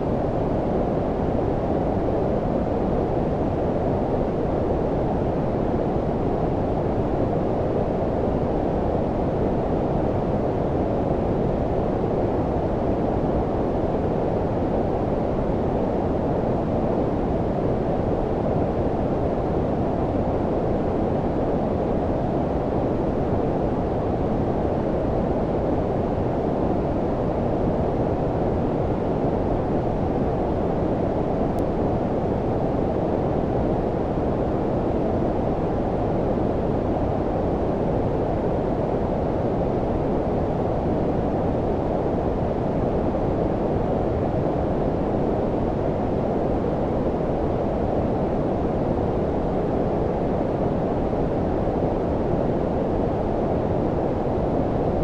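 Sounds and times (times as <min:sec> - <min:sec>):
low muffled white noise: 0:00.0 - 0:55.0.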